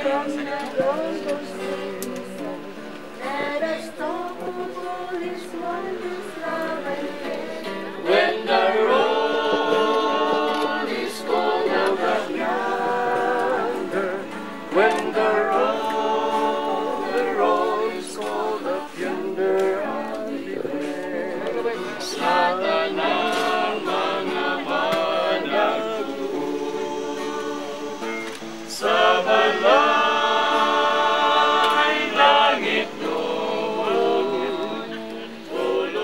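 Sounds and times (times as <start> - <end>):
group of voices singing: 0.0 - 36.0.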